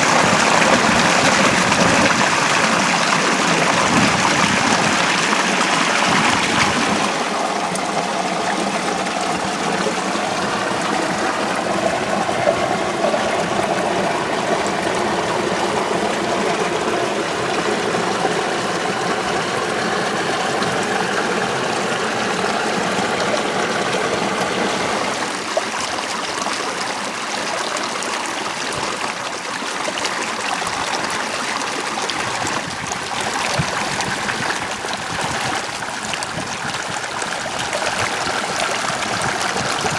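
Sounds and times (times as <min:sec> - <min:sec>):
water rushing along a ditch: 0:00.0 - 0:39.9.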